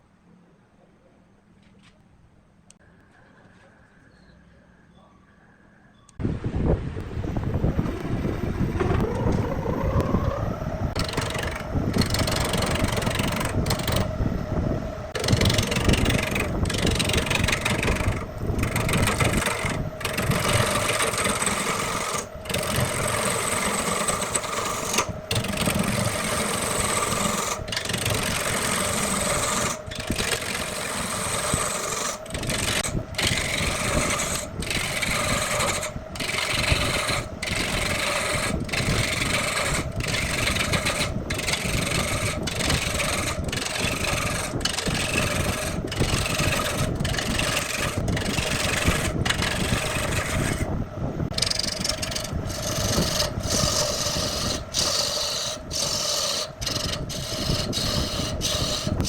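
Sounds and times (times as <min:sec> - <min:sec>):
lathe motor hum: 0:07.0 - 0:59.0
tool scraping spinning wood: 0:07.4 - 0:59.0.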